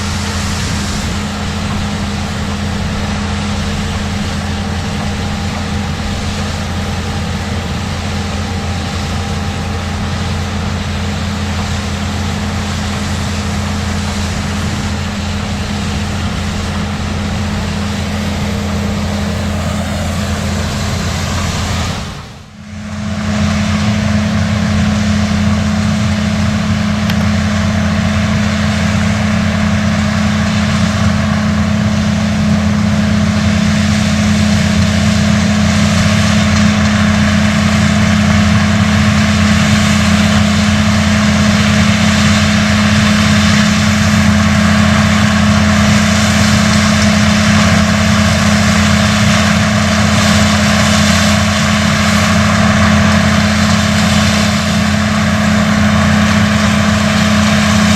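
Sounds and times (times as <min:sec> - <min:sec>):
combine threshing machinery: 0:00.0 - 0:57.9
tractor engine drone: 0:00.0 - 0:57.9.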